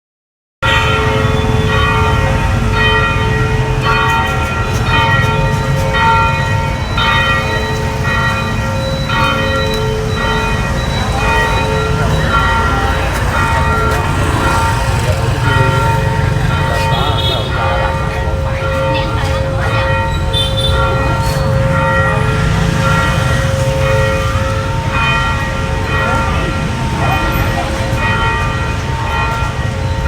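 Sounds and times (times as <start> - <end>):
church bell ringing: 0.6 - 30.0.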